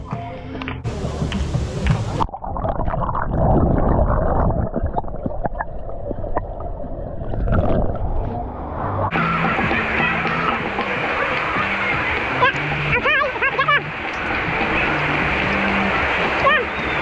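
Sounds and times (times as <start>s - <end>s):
water gurgling and sloshing: 1.8s - 17.0s.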